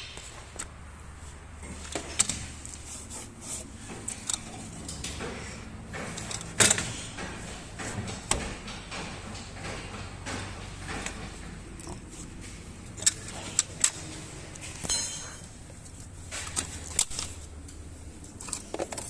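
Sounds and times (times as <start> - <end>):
knocks and clicks of handling: 1.6 - 19.0.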